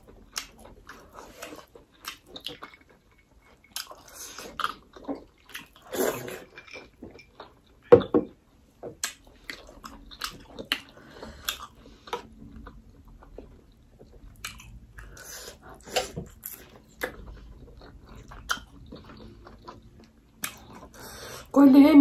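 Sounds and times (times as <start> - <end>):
chewing with wet clicks and smacks: 0.0 - 21.5.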